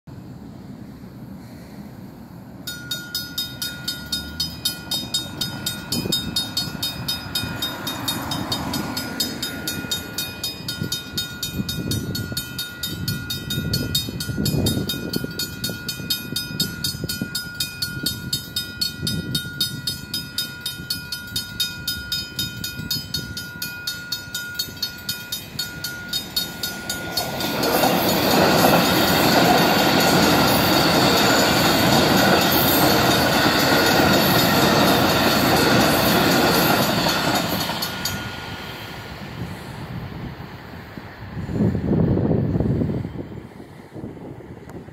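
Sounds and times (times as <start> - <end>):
train wheels on rails: 2.5 - 44.9
crossing bells ringing: 2.6 - 39.1.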